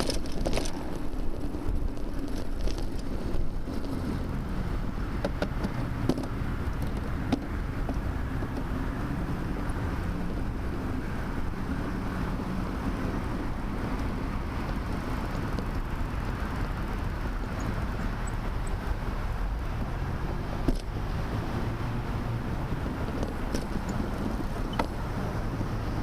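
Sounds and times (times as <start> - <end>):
low road rumble: 0.0 - 26.0
wind buffeting microphone: 0.0 - 26.0.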